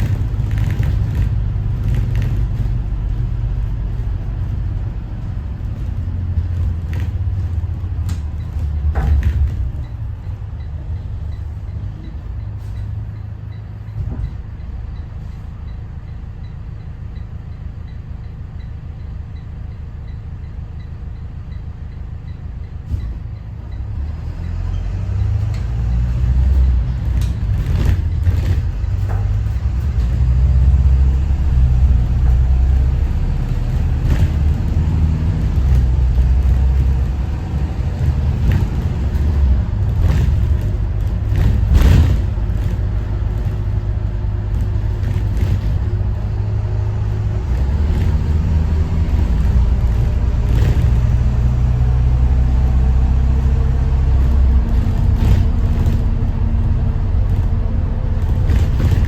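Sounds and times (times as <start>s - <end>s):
bus diesel engine rumbling: 0.0s - 59.0s.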